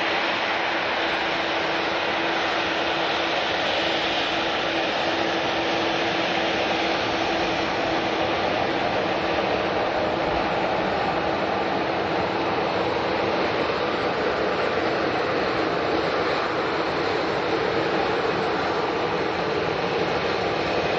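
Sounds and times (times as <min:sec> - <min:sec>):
jet engines running: 0:00.0 - 0:20.9.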